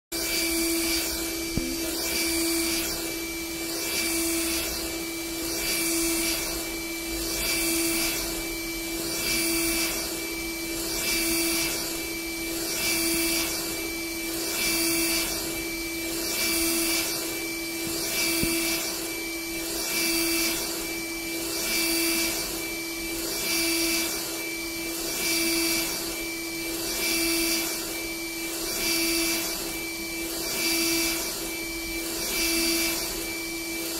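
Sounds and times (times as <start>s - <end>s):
printer motors whirring and humming: 0.2s - 33.9s.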